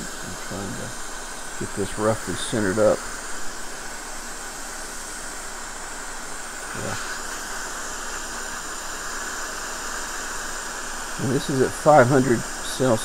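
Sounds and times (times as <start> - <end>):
hot air blower hissing: 0.0 - 13.0.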